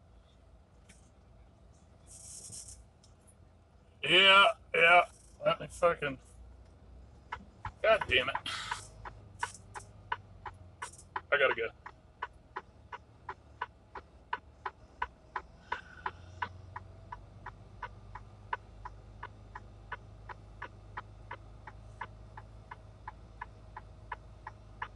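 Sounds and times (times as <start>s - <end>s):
idling engine hum: 0.0s - 24.9s.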